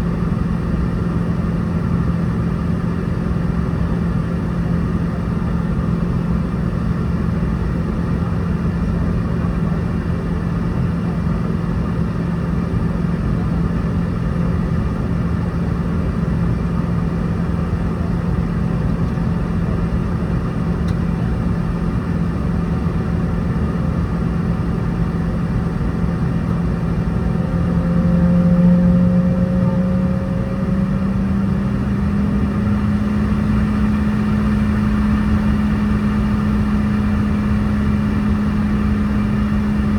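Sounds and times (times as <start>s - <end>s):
jet engine cabin hum: 0.0s - 39.9s.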